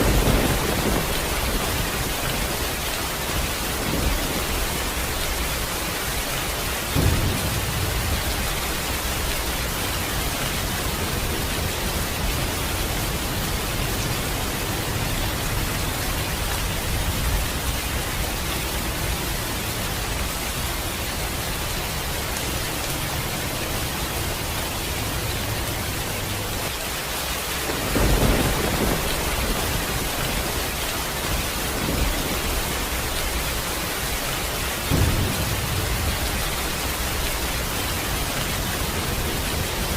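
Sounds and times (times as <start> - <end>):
thunder rumbling: 0.0 - 22.6, 27.5 - 39.9
rain hissing: 0.0 - 39.9.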